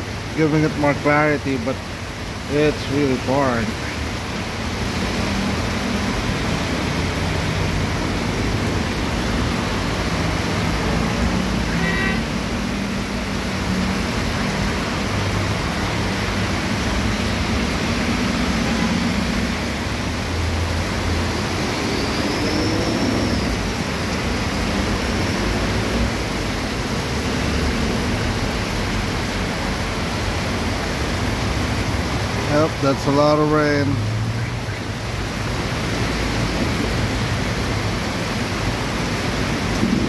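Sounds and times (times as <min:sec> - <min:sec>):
heavy rain pouring: 0:00.0 - 0:40.0
passing traffic on wet road: 0:00.0 - 0:40.0.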